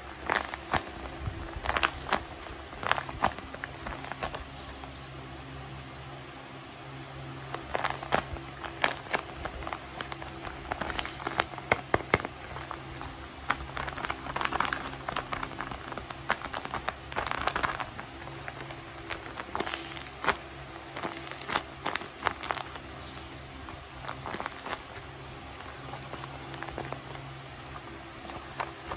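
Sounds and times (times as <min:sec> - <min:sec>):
paper squishies crinkling: 0:00.0 - 0:05.2, 0:07.5 - 0:28.9.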